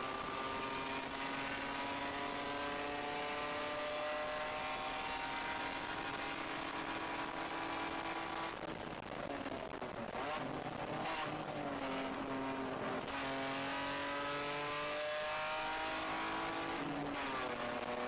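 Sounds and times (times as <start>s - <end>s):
race car engine revving: 0.0s - 18.0s
wind and road noise: 0.0s - 18.0s.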